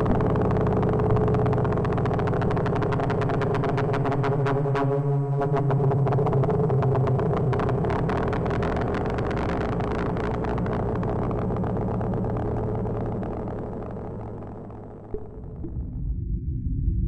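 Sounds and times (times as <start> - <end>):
dense crackling: 0.0 - 4.9, 5.6 - 16.0
droning noise with low hum: 0.0 - 17.0.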